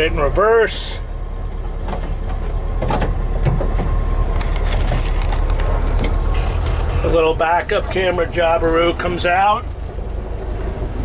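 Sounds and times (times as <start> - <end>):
air-cooled engine idling: 0.0 - 11.0.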